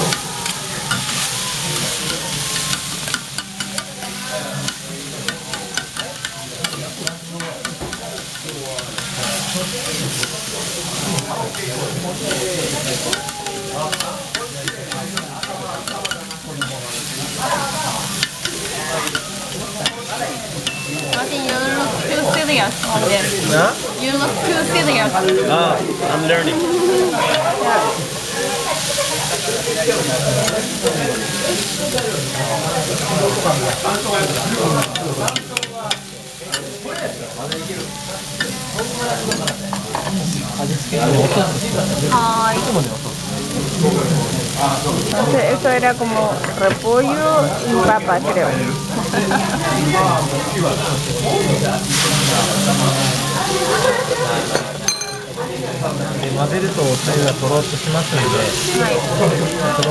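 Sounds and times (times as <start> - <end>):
cabbage sizzling on a griddle: 0.0 - 59.9.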